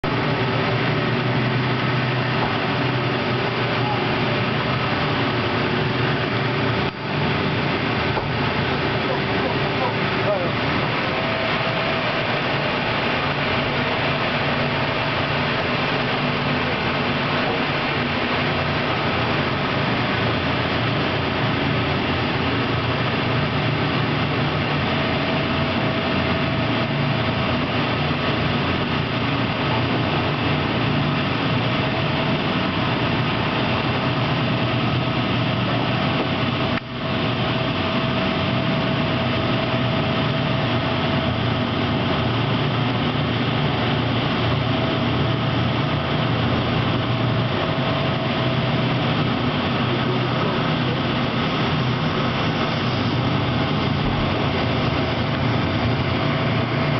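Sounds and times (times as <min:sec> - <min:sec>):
heavy machinery drone: 0:00.0 - 0:56.9
rushing noise: 0:00.0 - 0:56.9.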